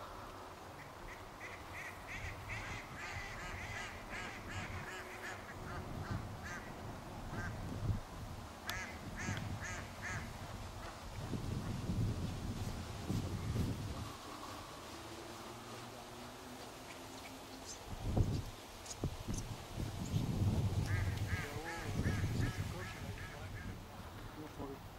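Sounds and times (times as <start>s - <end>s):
low wind rumble: 0.0s - 24.9s.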